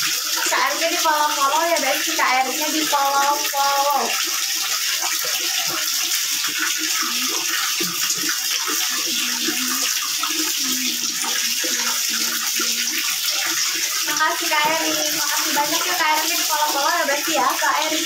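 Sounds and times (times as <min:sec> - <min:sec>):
water poured splashing: 0:00.0 - 0:18.0
water running into plastic bucket: 0:00.0 - 0:18.0.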